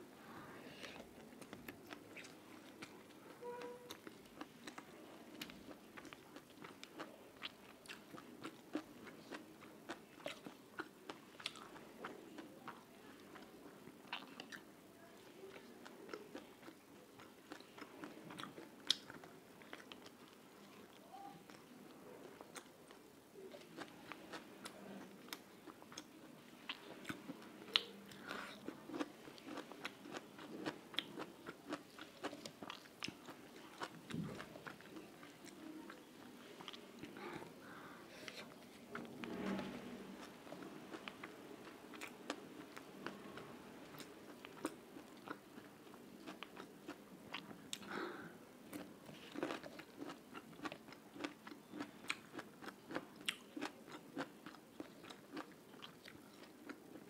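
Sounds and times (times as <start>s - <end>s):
person chewing food: 0.8s - 14.7s, 15.4s - 39.5s, 40.2s - 57.0s.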